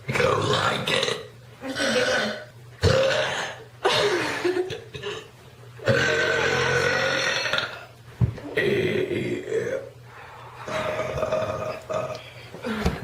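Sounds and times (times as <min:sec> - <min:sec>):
women burping: 0:01.0 - 0:09.9, 0:10.6 - 0:13.0.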